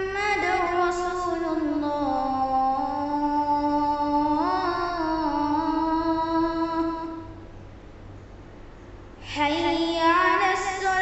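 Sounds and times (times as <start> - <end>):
boy chanting call to prayer: 0.0 - 7.4, 9.2 - 11.0.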